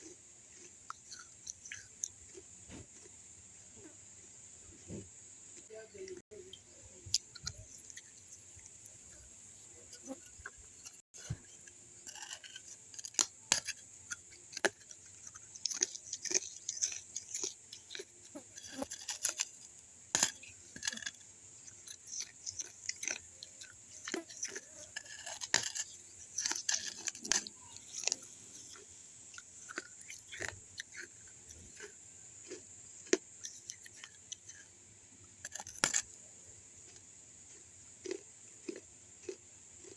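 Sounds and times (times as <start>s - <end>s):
chewing and crunching clay pieces: 0.0s - 3.2s, 5.5s - 39.9s.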